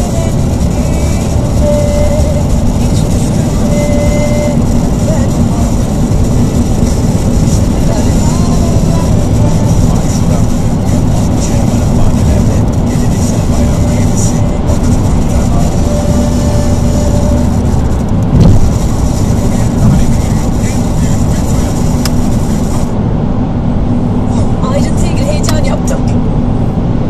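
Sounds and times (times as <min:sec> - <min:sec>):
car road noise rumble: 0:00.0 - 0:27.0.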